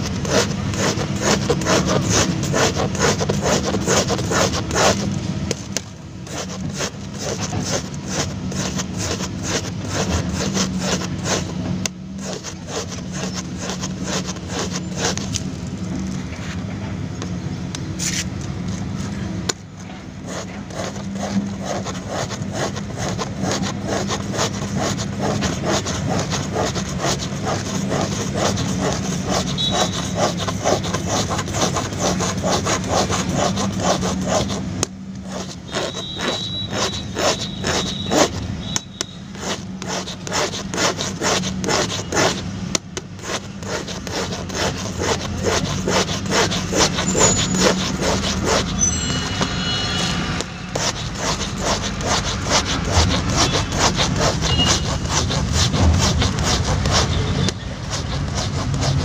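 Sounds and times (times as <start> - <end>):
metal file rasping on rubber: 0.0 - 15.7, 18.0 - 59.0.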